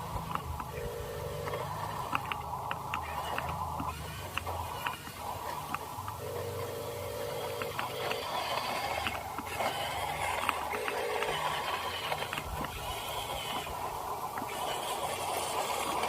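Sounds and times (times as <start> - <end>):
small electric motors whining: 0.0 - 16.0
clicks of gears: 1.4 - 6.2, 7.4 - 16.0.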